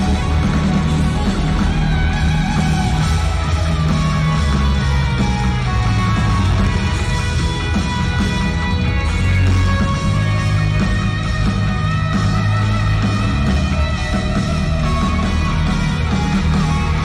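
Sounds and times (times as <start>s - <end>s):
band playing loud rock music: 0.0s - 17.0s
electric guitar: 0.0s - 17.0s
heavy bass line: 0.0s - 17.0s.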